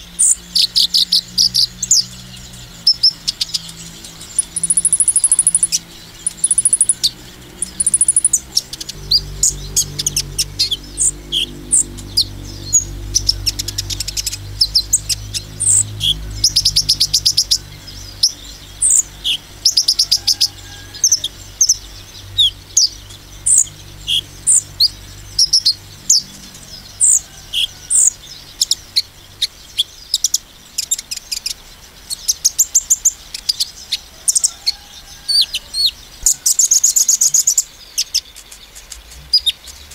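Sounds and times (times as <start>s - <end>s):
sunbird singing chirps and trills: 0.0s - 39.9s.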